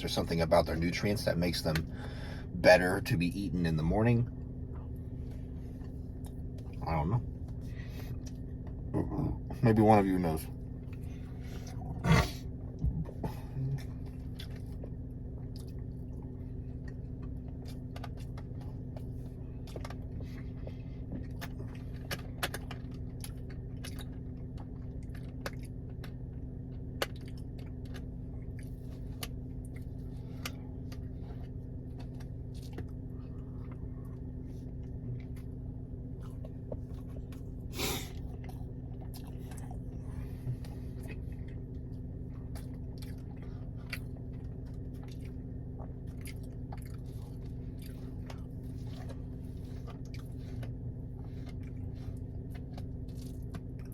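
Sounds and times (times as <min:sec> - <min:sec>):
low electrical hum: 0:00.0 - 0:53.9
person chewing food: 0:04.7 - 0:09.1, 0:10.5 - 0:53.9.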